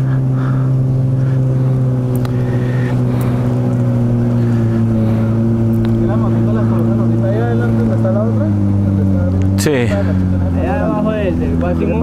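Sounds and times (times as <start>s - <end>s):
boat motor running: 0.0s - 12.0s
water rushing along hull: 0.0s - 12.0s.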